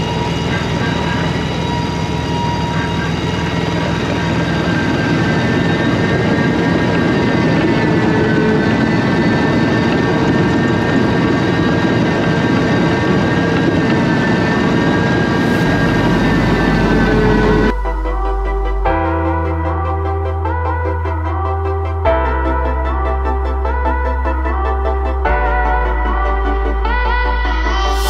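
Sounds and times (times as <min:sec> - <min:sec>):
ditching machine whining: 0:00.0 - 0:28.0.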